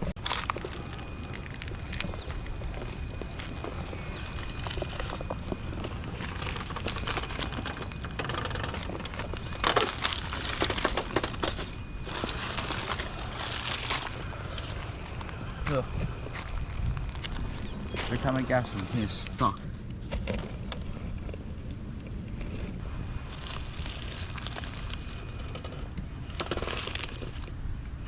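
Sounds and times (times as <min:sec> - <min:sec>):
toy truck crunching over rock: 0:00.0 - 0:20.9, 0:22.8 - 0:27.6.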